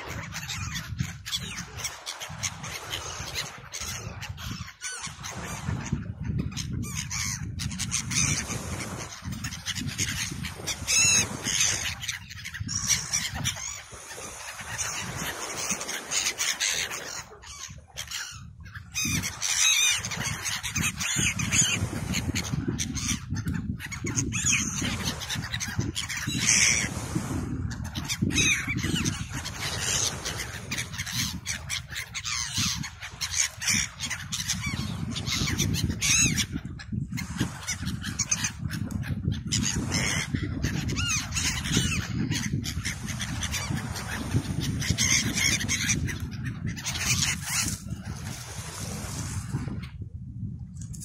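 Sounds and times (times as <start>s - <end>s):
gulls calling: 0.0s - 48.8s
wind and sea rumble: 0.0s - 51.0s.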